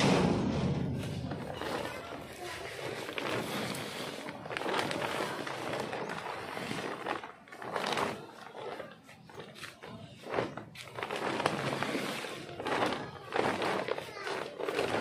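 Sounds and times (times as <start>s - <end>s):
plastic bag rustling: 0.7s - 15.0s
compost shifting in bag: 0.8s - 15.0s.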